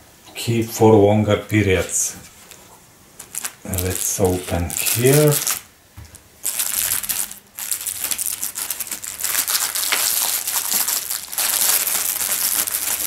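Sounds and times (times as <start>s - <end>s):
cellophane wrapper crinkling: 2.4s - 13.0s.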